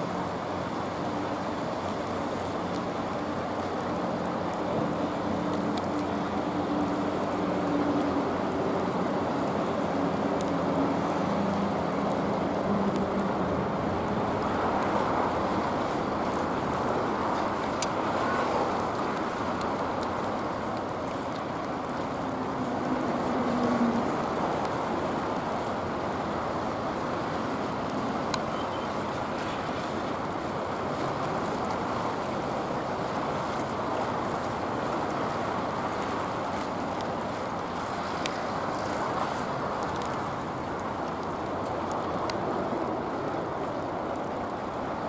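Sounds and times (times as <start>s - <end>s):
harbour background noise: 0.0s - 45.0s.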